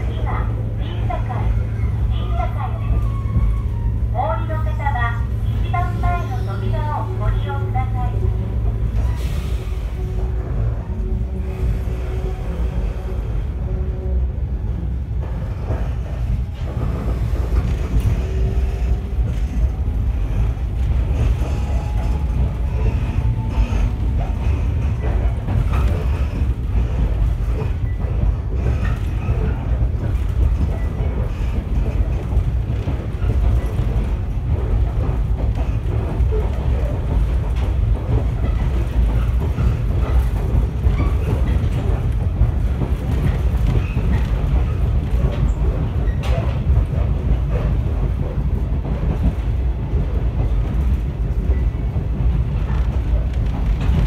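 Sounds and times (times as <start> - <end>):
rail clicks: 0.0 - 54.0
train wheels rumbling on rail: 0.0 - 54.0.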